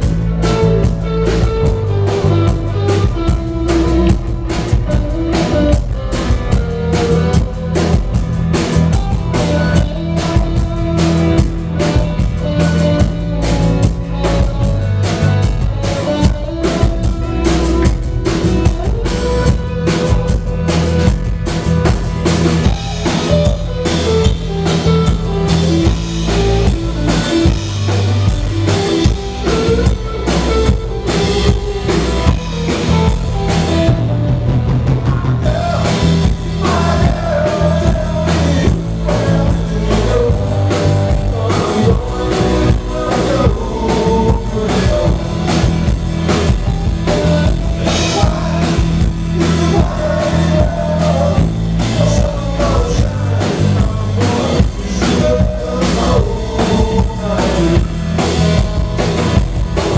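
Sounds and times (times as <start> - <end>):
drum kit beat: 0.0 - 59.9
rock band playing live: 0.0 - 59.9.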